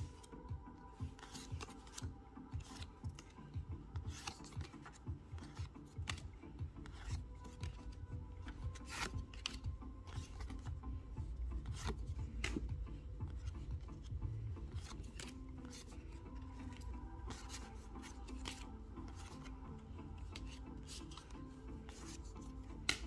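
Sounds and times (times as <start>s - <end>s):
trading cards being flipped: 0.0s - 23.0s.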